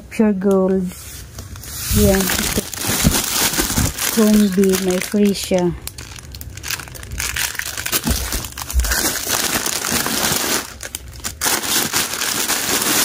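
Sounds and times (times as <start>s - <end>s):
plastic wrappers crinkling: 0.7s - 13.0s.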